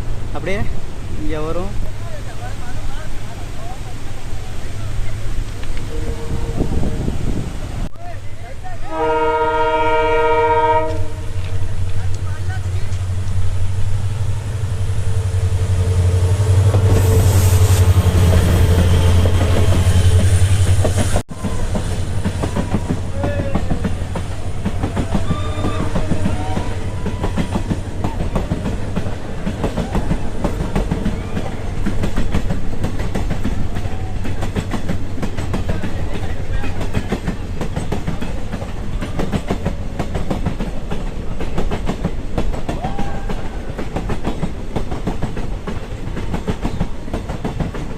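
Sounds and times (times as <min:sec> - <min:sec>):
loud low train hum: 0:00.0 - 0:47.9
train clickety-clack over rail joints: 0:00.0 - 0:47.9.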